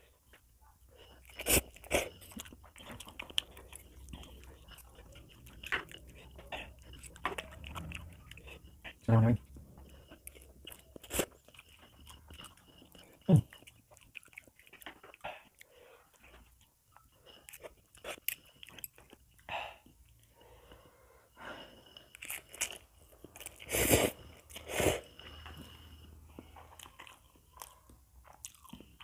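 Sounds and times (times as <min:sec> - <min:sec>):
person chewing and slurping: 0:01.0 - 0:20.1, 0:21.9 - 0:29.0.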